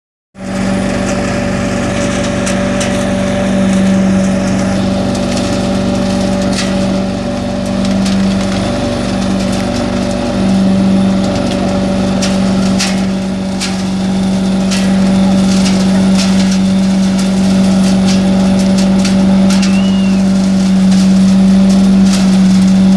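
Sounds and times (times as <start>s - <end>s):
vacuum motor humming: 0.4s - 22.9s.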